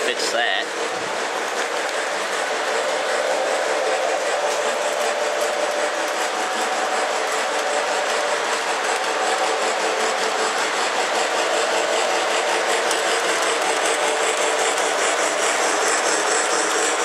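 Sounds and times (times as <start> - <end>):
model train motor whirring: 0.0 - 17.0.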